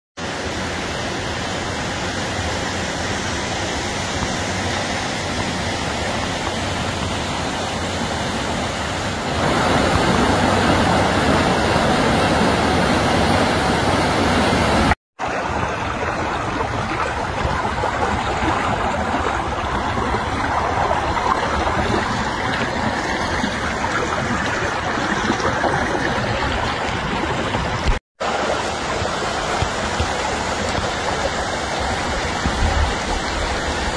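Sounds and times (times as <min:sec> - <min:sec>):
water rushing in creek and waterfall: 0:00.2 - 0:33.9.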